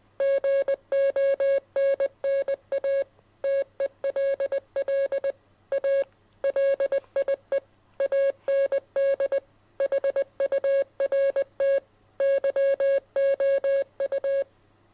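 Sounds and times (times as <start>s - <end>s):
morse code beeps: 0.2s - 7.4s, 8.0s - 14.5s.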